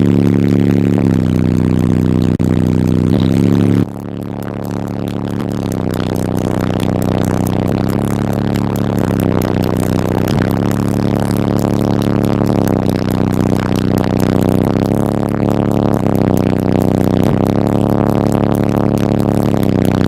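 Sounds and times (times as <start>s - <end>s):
bass-heavy music through subwoofer: 0.0s - 20.0s.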